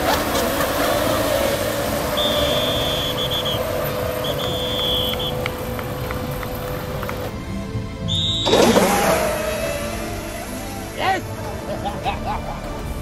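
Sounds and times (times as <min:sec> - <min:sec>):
boat motor whine: 0:00.0 - 0:11.7.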